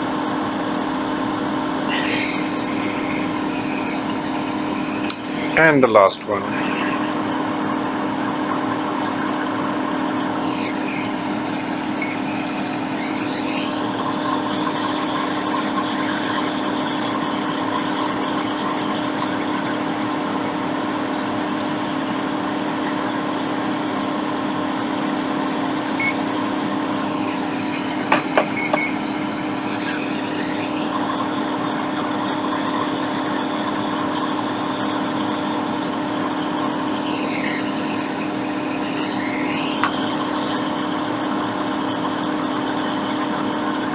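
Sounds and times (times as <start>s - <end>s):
extractor fan humming: 0.0s - 43.9s.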